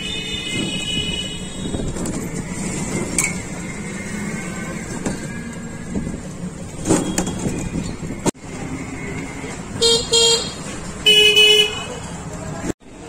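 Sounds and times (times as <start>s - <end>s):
motor traffic noise: 0.0s - 13.0s.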